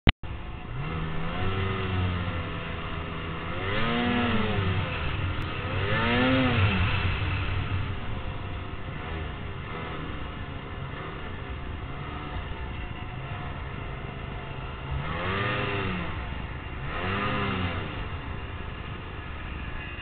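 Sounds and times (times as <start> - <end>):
steady low hum: 0.2 - 20.0
engine revving: 0.3 - 20.0.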